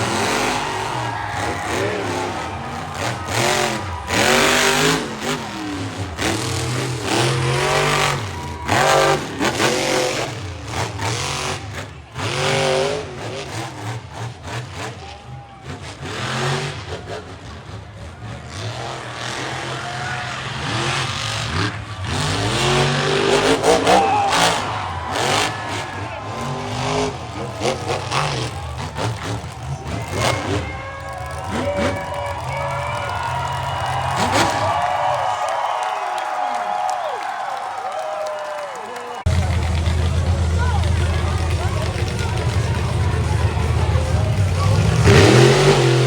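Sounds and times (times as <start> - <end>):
monster truck engine revving: 0.0 - 37.4, 38.7 - 46.0.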